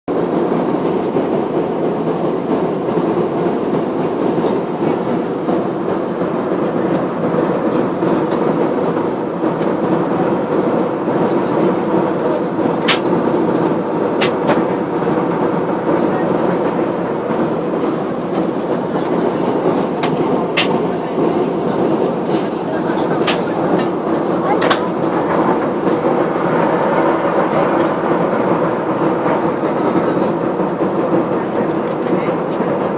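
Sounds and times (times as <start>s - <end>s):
airliner cabin drone: 0.1s - 32.9s.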